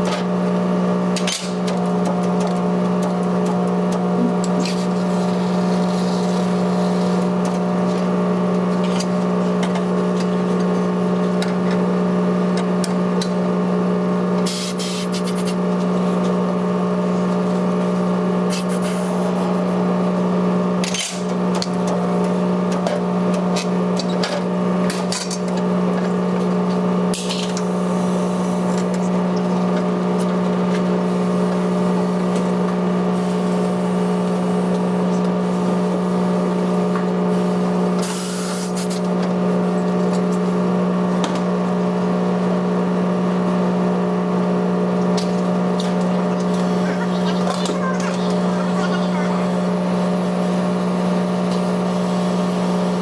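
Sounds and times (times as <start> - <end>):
low machine hum: 0.0 - 38.0, 39.0 - 53.0.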